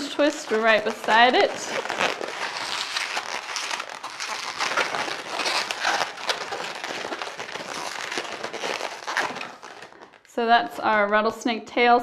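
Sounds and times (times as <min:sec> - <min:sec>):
balloons rubbing and squeaking: 0:00.0 - 0:10.3.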